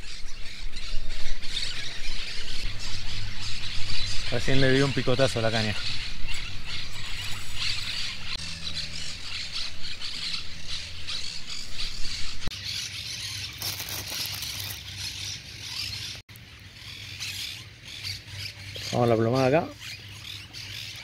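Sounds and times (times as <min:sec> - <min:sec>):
birds squawking and chattering: 0:00.0 - 0:21.0.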